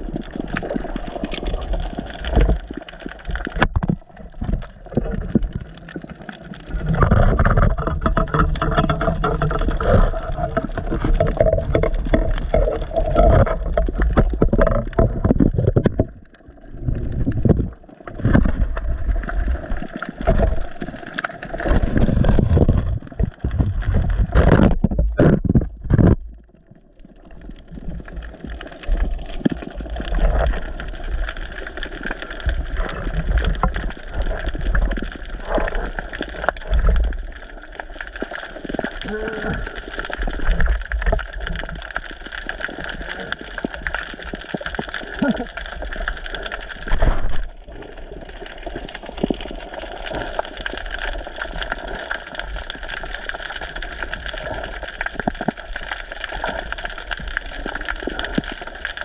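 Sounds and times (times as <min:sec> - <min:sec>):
water sloshing and gurgling: 0:00.0 - 0:59.0.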